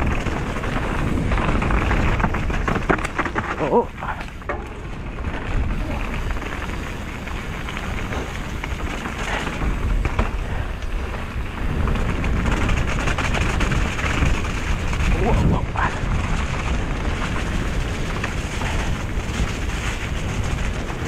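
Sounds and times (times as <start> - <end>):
bike clattering and rattling: 0.0 - 21.0
bike tyres rolling over rough ground: 0.0 - 21.0
wind rumble on microphone: 0.0 - 21.0.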